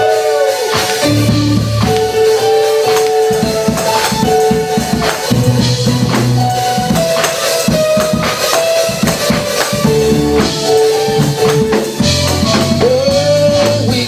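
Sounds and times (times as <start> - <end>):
drum kit beat: 0.0 - 14.0
gospel band instrumental: 0.0 - 14.0
tambourine: 0.0 - 14.0.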